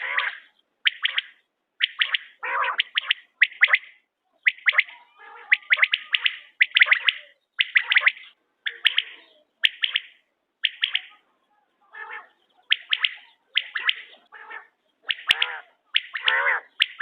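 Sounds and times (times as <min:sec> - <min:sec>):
buzzy bird calls: 0:00.0 - 0:17.0
quail calling: 0:00.0 - 0:17.0.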